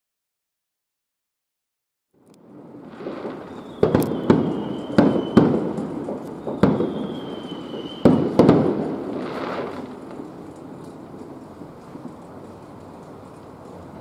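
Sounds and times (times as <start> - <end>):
fireworks bursting with echoing bangs: 2.4 - 14.0
fireworks high whistles: 2.7 - 14.0.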